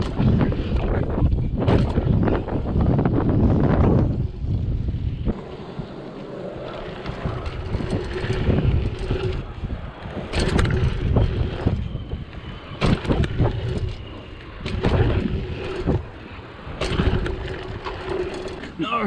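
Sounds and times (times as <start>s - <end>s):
bike clattering: 0.0s - 5.5s, 6.6s - 19.0s
bike tyres rolling: 0.0s - 19.0s
wind buffeting microphone: 0.0s - 19.0s.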